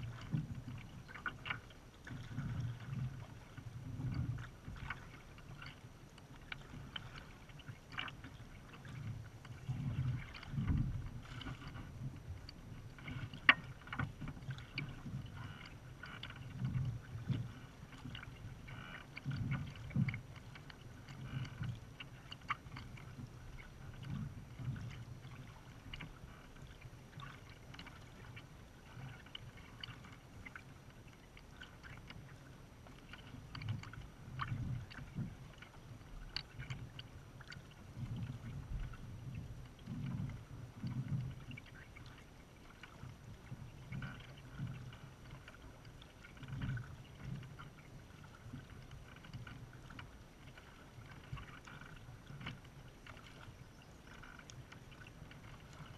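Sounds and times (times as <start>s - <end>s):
paddle drips and splashes: 0.0s - 55.9s
water sloshing against kayak: 0.0s - 55.9s.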